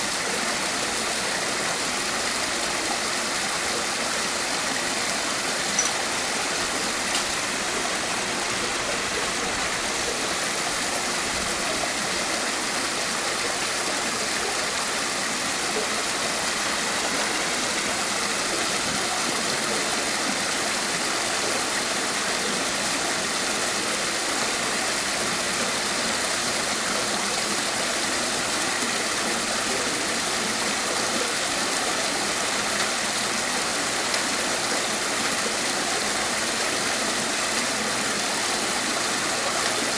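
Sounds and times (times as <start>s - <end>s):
waterfall splashing into pool: 0.0s - 39.9s.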